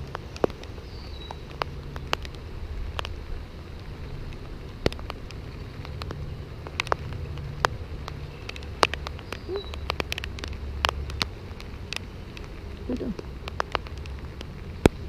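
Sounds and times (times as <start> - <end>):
low rumble of rain: 0.0 - 15.0
raindrops tapping: 0.0 - 15.0.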